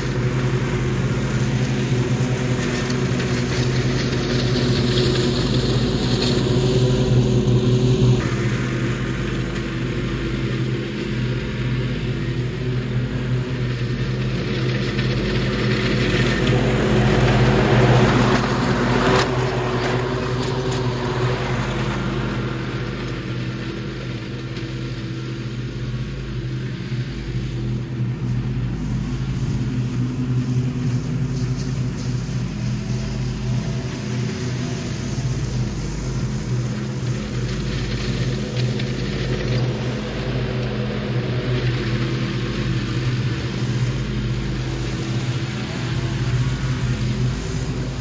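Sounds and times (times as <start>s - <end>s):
mower blades cutting leaves: 0.0s - 48.0s
riding mower engine running: 0.0s - 48.0s.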